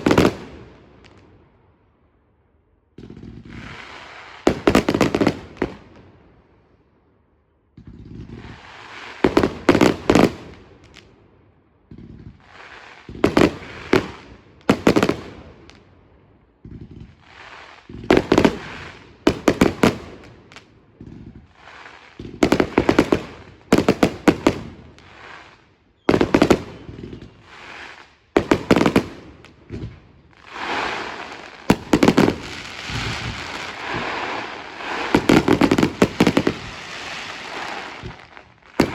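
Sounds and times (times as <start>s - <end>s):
fireworks fizzing and crackling: 0.0s - 1.3s, 3.0s - 6.1s, 7.8s - 11.2s, 11.9s - 16.0s, 16.6s - 38.9s
fireworks bursting with sharp bangs: 0.0s - 1.6s, 2.9s - 6.7s, 7.7s - 38.9s.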